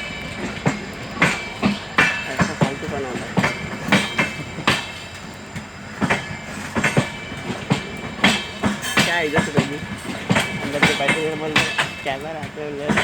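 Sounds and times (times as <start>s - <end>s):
train rumble: 0.0s - 13.0s
train wheels clattering over rail joints: 0.0s - 13.0s.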